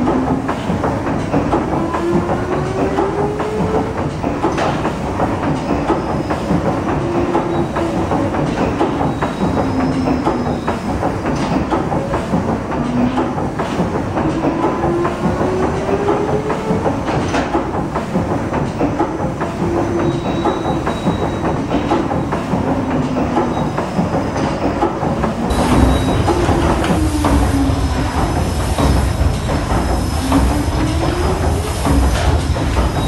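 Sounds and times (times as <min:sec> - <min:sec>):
steam engine clanking: 0:00.0 - 0:33.0.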